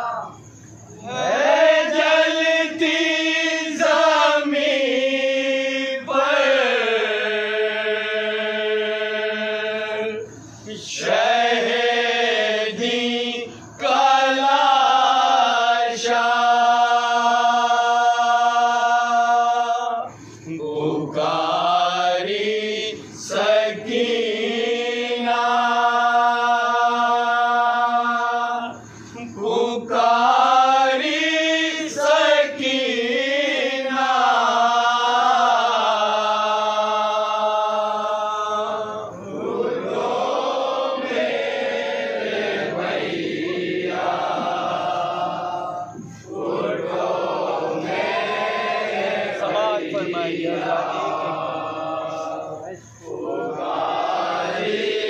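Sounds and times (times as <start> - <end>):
voices chanting a lament: 0.0 - 55.0.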